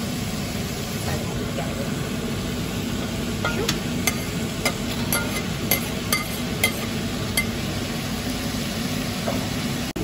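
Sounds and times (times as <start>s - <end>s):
pork sizzling in a pot: 0.0s - 10.0s.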